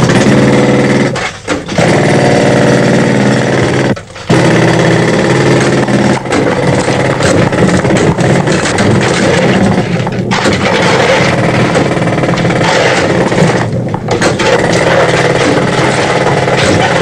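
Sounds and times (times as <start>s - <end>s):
mining machinery clatter: 0.0s - 17.0s.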